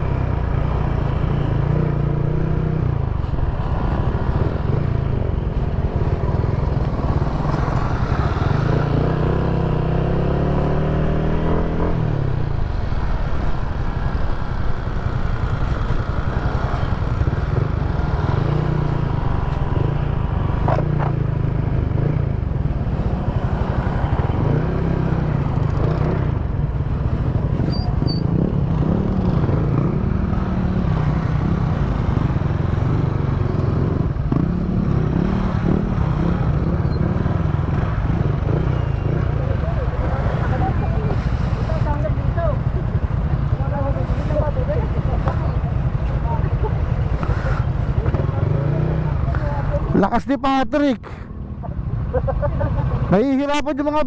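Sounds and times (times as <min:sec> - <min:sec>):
motorcycle engine revving: 0:00.0 - 0:12.7, 0:15.0 - 0:50.0.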